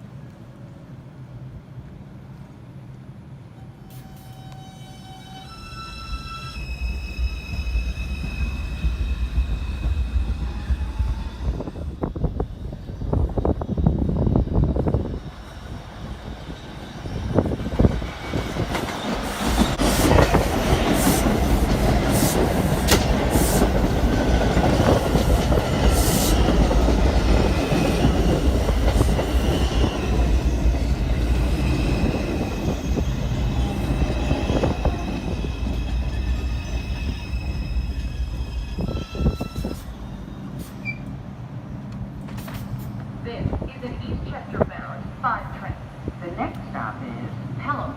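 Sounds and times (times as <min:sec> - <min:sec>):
subway train running past: 0:00.0 - 0:47.9.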